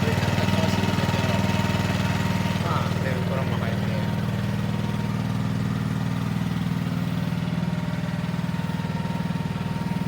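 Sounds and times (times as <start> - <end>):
log splitter engine running: 0.0 - 10.0.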